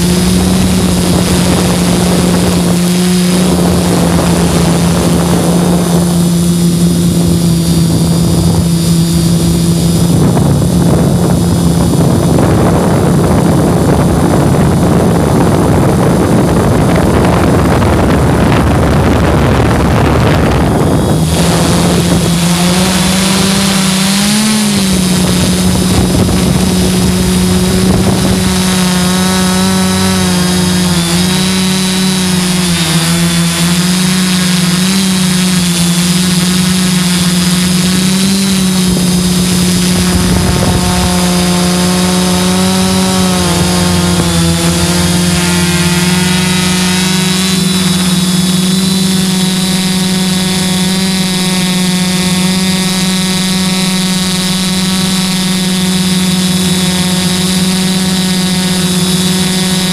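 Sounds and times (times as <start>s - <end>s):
drone motors humming: 0.0s - 59.9s
wind rushing over microphone: 0.0s - 59.9s.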